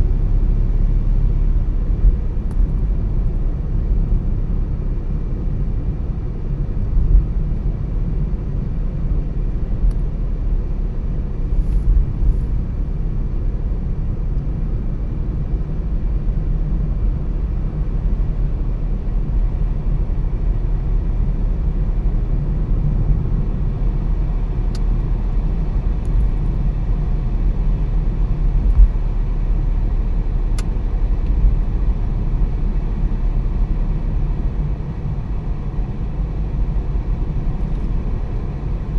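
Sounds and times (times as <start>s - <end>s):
car tyres and engine rumbling: 0.0s - 38.9s.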